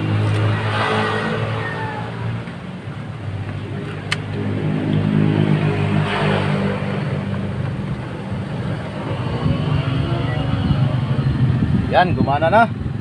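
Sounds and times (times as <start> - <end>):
car engine idling: 1.4 - 13.0.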